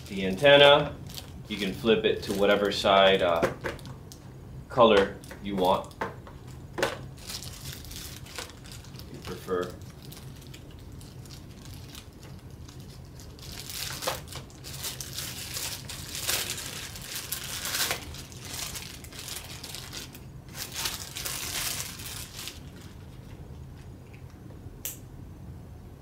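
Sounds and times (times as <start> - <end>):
plastic bag crinkling: 0.0 - 4.0, 5.2 - 23.9.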